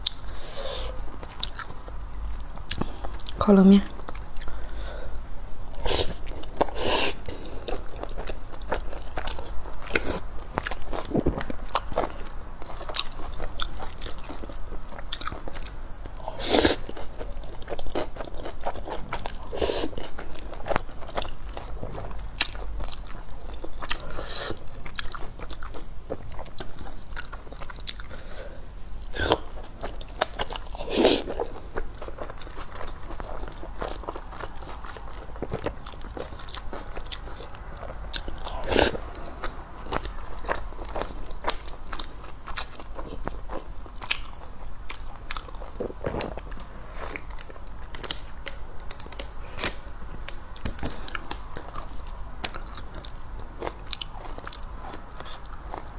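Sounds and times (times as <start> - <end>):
chewing noodles: 0.0 - 3.4, 5.7 - 55.9.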